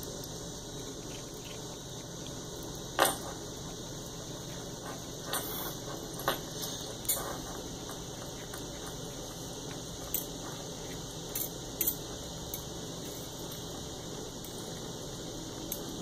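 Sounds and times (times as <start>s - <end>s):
room hum: 0.0s - 16.0s.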